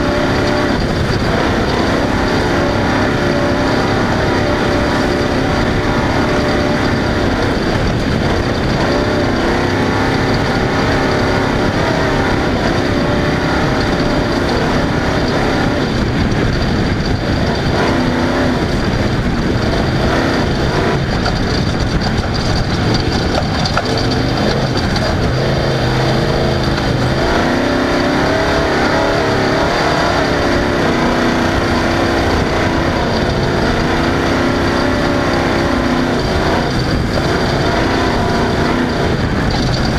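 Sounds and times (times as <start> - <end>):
constant rushing noise: 0.0 - 39.9
race vehicle engine revving: 0.0 - 39.9.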